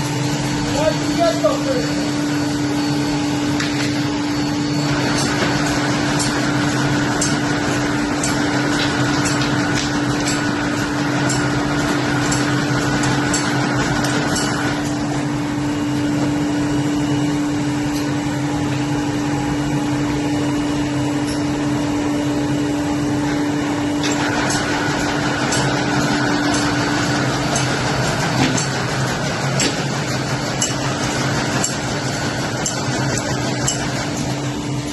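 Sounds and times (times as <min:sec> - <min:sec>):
high machine whine: 0:00.0 - 0:34.9
machine humming with hiss: 0:00.0 - 0:34.9.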